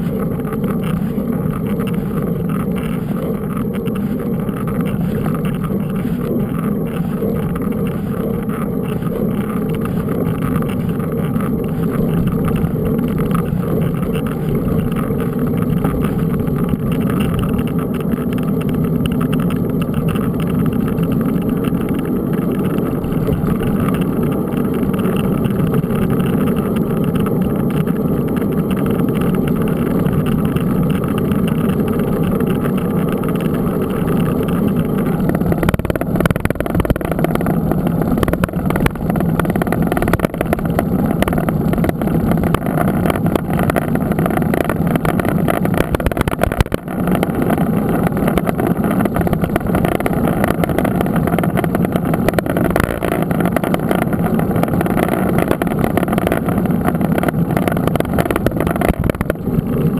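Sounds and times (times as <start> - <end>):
bike tyres rolling: 0.0 - 59.9
wind on microphone: 0.0 - 59.9.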